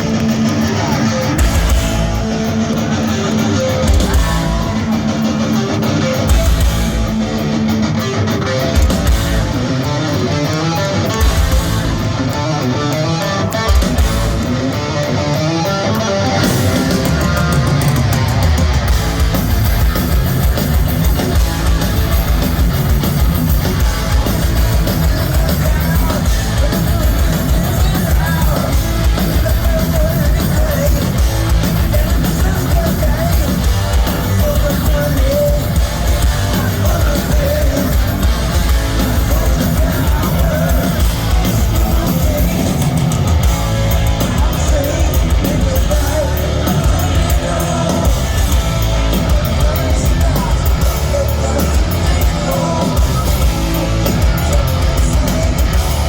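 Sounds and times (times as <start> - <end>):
heavy metal band playing live: 0.0 - 56.0.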